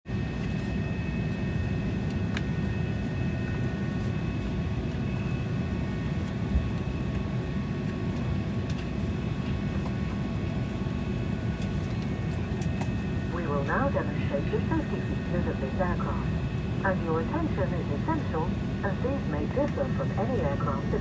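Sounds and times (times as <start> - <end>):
airliner cabin rumble: 0.2 - 21.0.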